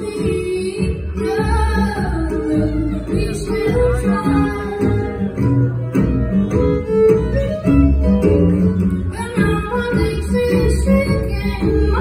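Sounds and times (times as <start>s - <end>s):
acoustic guitar: 0.0s - 12.0s
fiddle: 0.0s - 12.0s
mandolin: 0.0s - 12.0s
upright bass: 0.0s - 12.0s.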